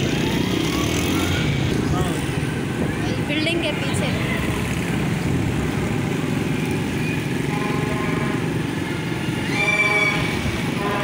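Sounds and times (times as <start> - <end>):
vehicle road noise rumble: 0.0 - 11.0.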